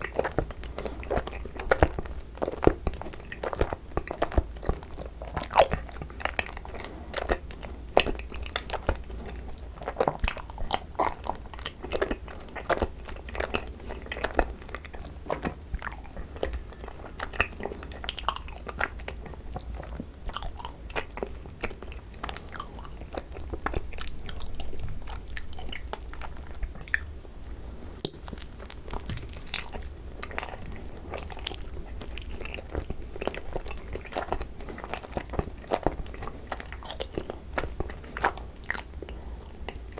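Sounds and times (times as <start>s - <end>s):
chewing and biting: 0.0s - 27.2s, 27.9s - 39.9s.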